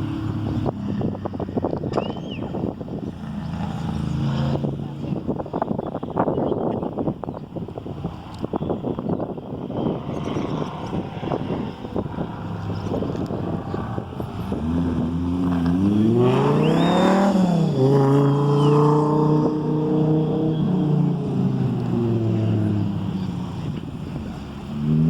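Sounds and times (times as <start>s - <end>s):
car engine accelerating hard: 0.0s - 5.8s, 8.0s - 25.0s
gusty wind noise: 0.0s - 25.0s.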